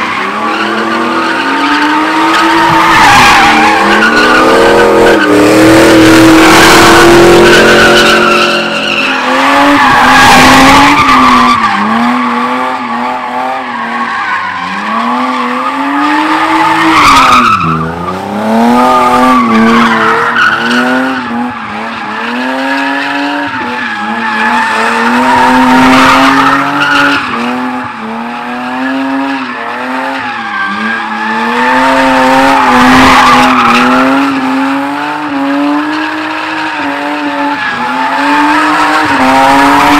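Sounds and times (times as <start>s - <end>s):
car engine revving hard: 0.0s - 14.1s, 14.7s - 39.9s
tires screeching: 0.0s - 39.9s.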